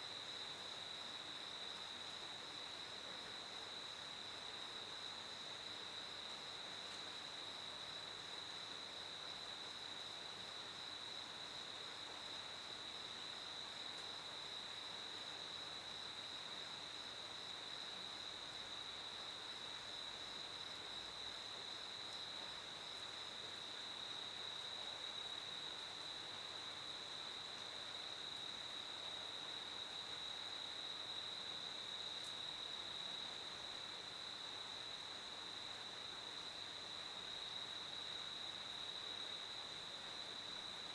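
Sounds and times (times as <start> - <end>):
crickets chirping: 0.0 - 40.9
faint background hiss: 0.0 - 40.9.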